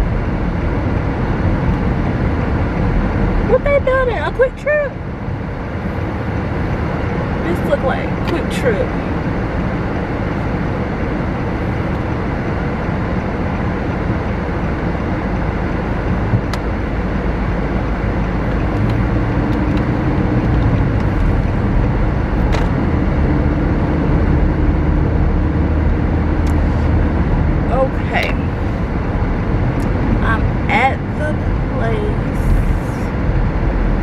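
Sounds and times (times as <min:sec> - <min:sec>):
car engine hum: 0:00.0 - 0:34.0
road noise inside car: 0:00.0 - 0:34.0.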